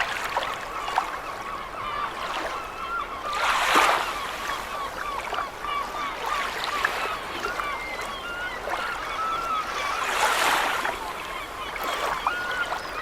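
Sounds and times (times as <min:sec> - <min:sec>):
seagulls calling: 0:00.1 - 0:13.0.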